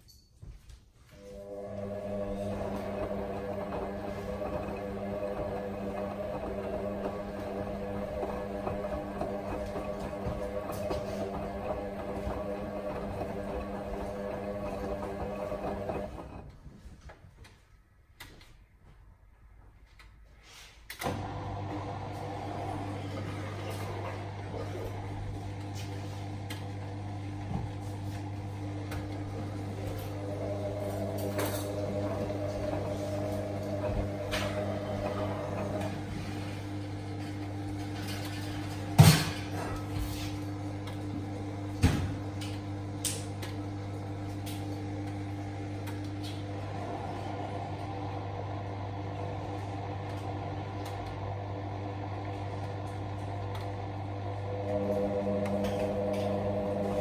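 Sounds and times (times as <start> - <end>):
washing machine motor humming: 1.1 - 16.8, 21.0 - 57.0.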